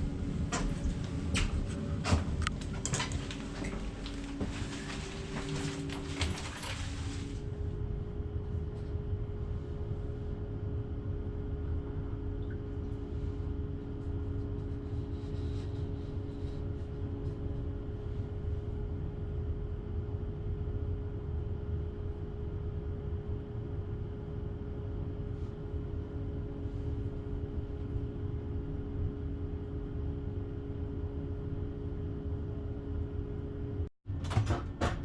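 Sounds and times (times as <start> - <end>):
second hum tone: 0.0 - 33.9
train cab low rumble: 0.0 - 33.9
electrical hum: 0.0 - 35.0.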